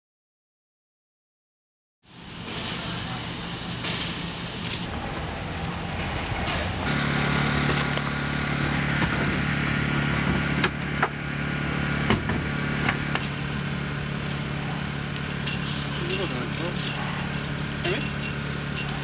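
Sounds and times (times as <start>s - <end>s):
engine idling: 2.2s - 19.0s.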